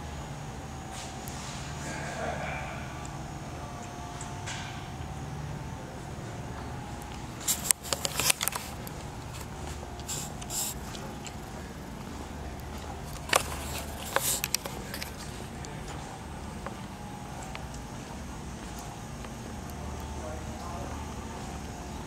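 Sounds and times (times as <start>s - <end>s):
workshop low hum: 0.0s - 22.0s.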